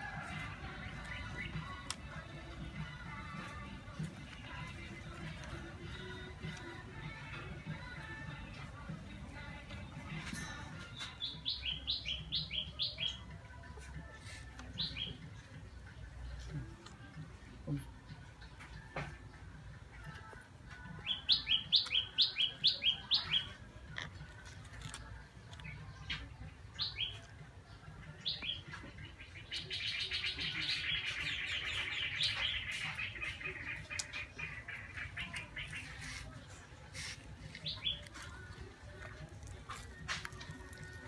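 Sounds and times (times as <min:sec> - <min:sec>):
small birds chirping: 0:00.2 - 0:17.8, 0:18.4 - 0:41.0.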